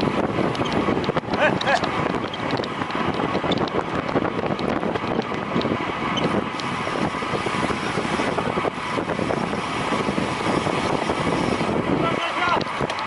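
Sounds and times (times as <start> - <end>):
bicycle tyre road noise: 0.0 - 13.0
wind on microphone: 0.0 - 13.0.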